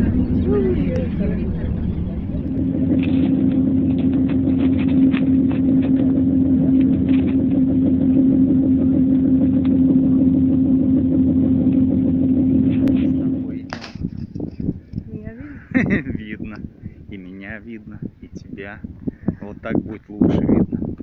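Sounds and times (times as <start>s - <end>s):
low rumbling road noise: 0.0s - 21.0s
vehicle engine running: 0.0s - 21.0s.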